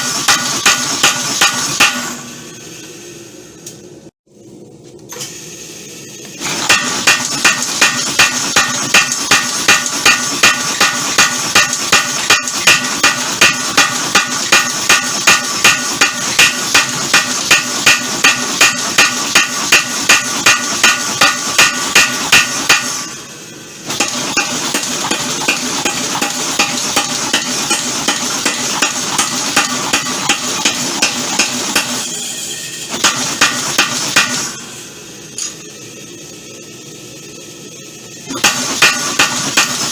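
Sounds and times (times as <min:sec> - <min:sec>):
power hammer striking hot steel: 0:00.0 - 0:03.0, 0:06.3 - 0:35.8, 0:38.3 - 0:39.9.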